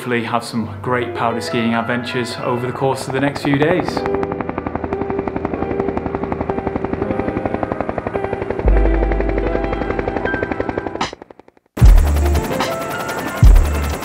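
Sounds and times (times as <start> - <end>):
helicopter rotor blades beating: 2.2 - 14.0.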